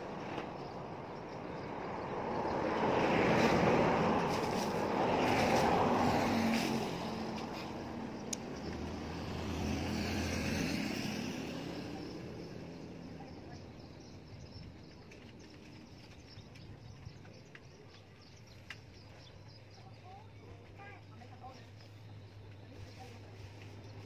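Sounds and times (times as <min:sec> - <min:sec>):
cars passing on road: 0:00.0 - 0:19.6.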